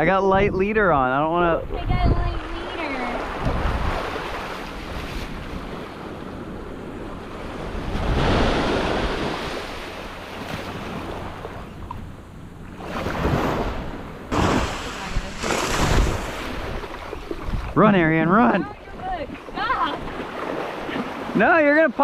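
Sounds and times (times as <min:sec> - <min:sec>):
wind rumbling on microphone: 0:00.0 - 0:21.4
small surf breaking: 0:01.7 - 0:22.0.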